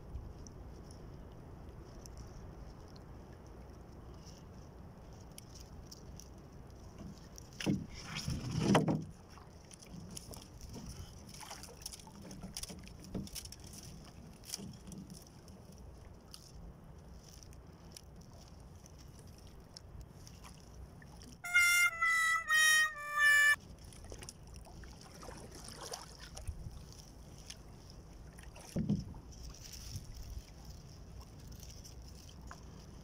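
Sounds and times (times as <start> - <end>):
fishing line clicks and rustles: 0.1 - 21.9, 25.6 - 33.0
water lapping against boat: 0.1 - 33.0.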